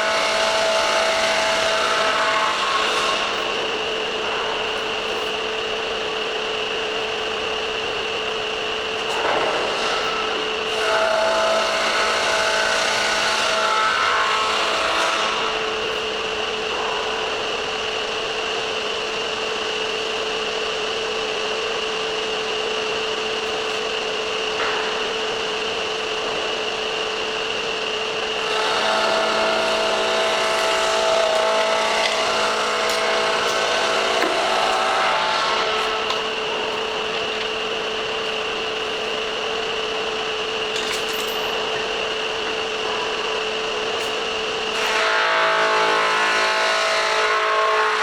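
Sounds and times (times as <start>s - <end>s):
sander whine: 9.5s - 48.0s.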